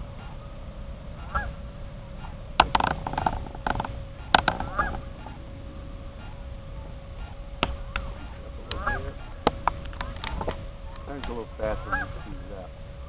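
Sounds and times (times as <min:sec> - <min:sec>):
faint steady hum: 0:00.0 - 0:13.0
geese honking: 0:00.0 - 0:13.0
low wind rumble: 0:00.0 - 0:13.0.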